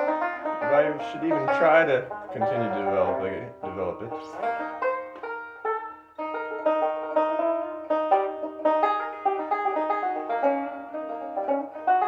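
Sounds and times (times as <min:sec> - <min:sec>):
banjo picking: 0:00.0 - 0:12.0.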